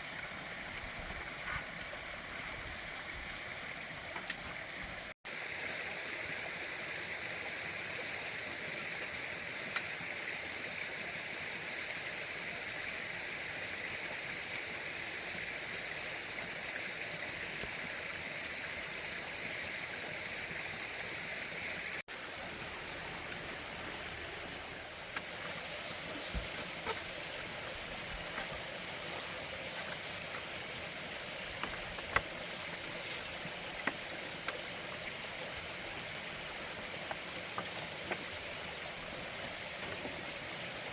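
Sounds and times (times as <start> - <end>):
continuous rushing hiss: 0.0 - 40.9.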